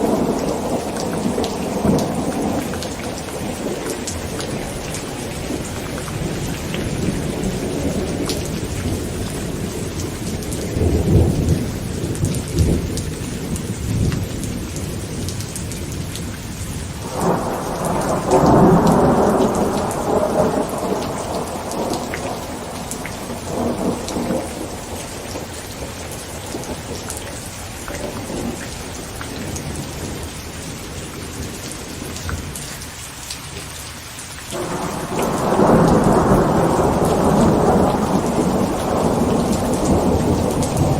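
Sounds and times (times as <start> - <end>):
rolling thunder: 0.0 - 16.3, 17.0 - 30.4, 34.5 - 40.9
heavy rain on a tent: 0.0 - 40.9.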